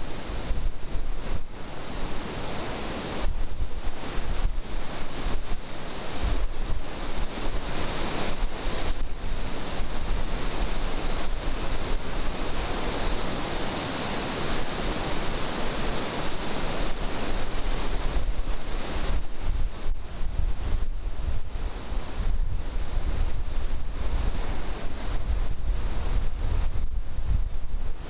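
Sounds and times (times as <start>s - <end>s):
river rushing through rapids: 0.0s - 28.0s
wind buffeting microphone: 0.0s - 28.0s.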